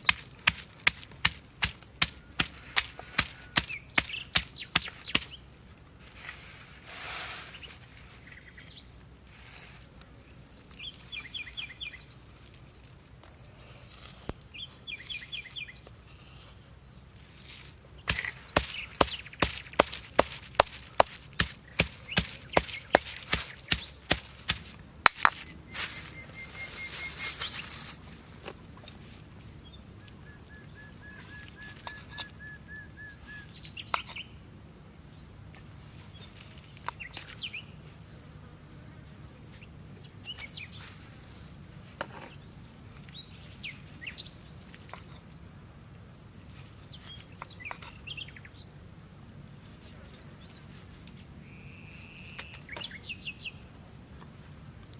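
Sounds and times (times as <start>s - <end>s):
birds chirping: 0.0s - 5.8s, 7.4s - 54.9s.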